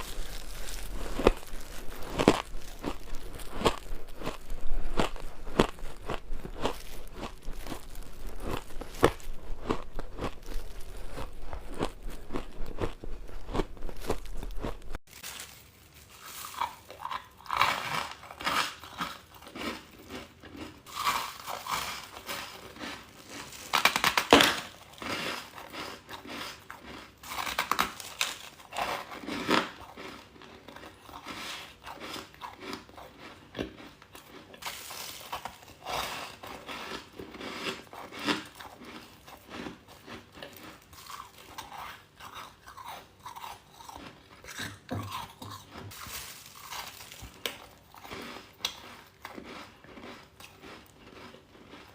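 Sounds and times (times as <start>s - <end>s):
ice being chewed: 0.0s - 15.0s, 16.1s - 51.9s.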